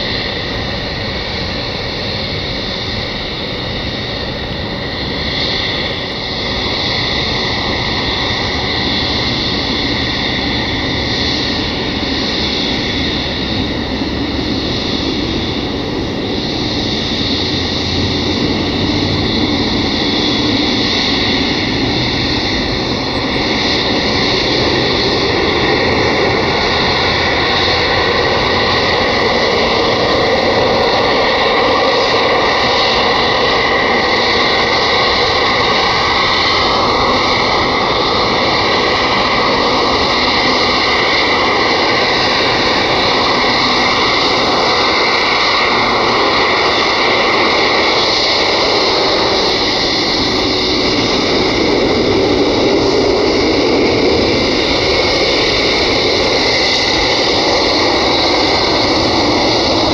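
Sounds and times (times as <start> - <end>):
jet engine whine: 0.0 - 59.9
rush of jet engine noise: 0.0 - 59.9.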